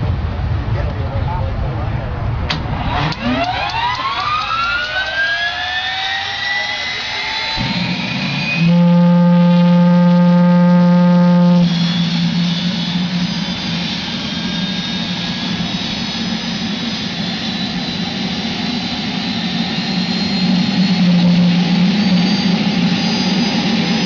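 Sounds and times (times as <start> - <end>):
loud steady droning tone: 0.0 - 24.0
gas turbine jet-like rush: 2.5 - 24.0.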